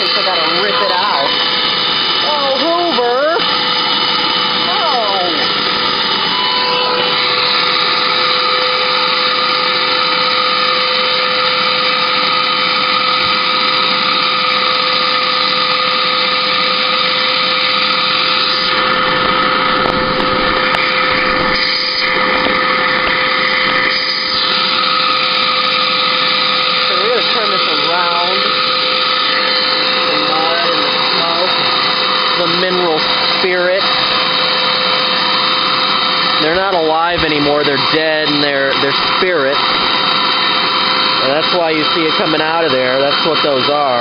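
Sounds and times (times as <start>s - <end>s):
vacuum cleaner motor whining: 0.0s - 44.0s.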